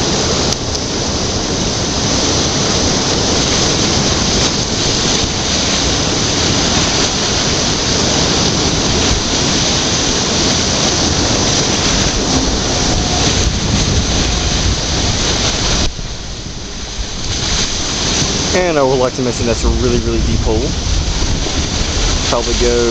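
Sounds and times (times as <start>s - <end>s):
water swirling and rushing: 0.0s - 22.9s.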